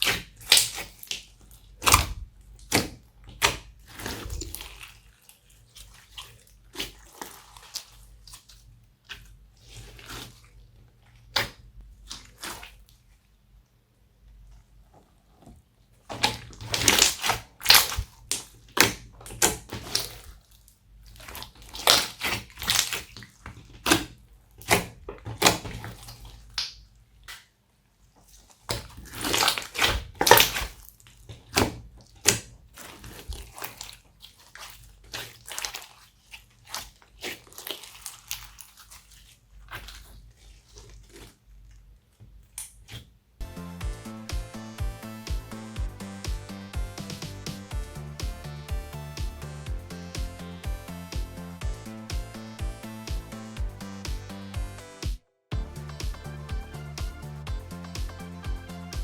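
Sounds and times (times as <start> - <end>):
slime squelching by hand: 0.0 - 13.4, 15.3 - 54.9.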